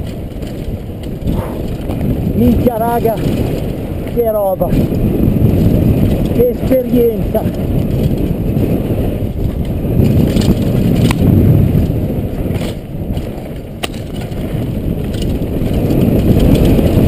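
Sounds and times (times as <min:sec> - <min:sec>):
bike tyres rumbling over dirt: 0:00.0 - 0:17.0
wind on microphone: 0:00.0 - 0:17.0.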